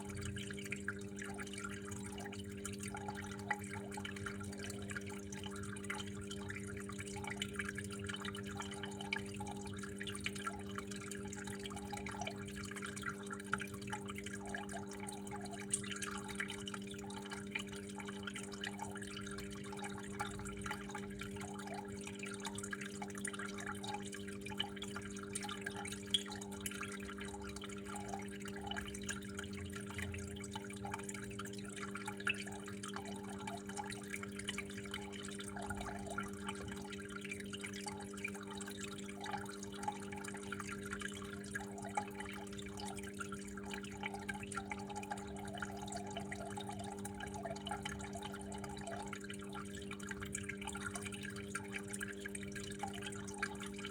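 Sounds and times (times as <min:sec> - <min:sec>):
water dripping: 0:00.0 - 0:53.9
water flowing and trickling: 0:00.0 - 0:53.9.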